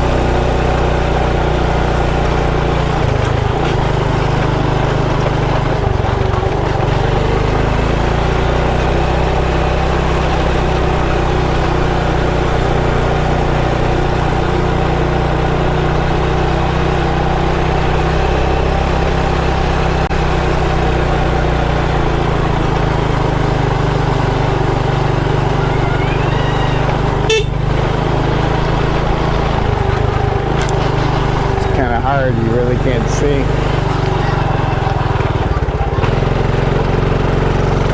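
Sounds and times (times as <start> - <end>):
motorcycle engine running: 0.0 - 37.9
road and wind noise: 0.0 - 37.9.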